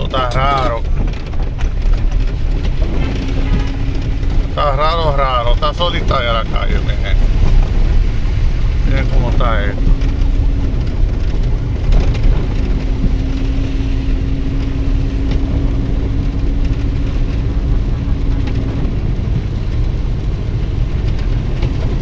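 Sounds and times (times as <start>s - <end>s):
engine and tyres rumbling: 0.0s - 22.0s
rain on the car: 0.0s - 22.0s.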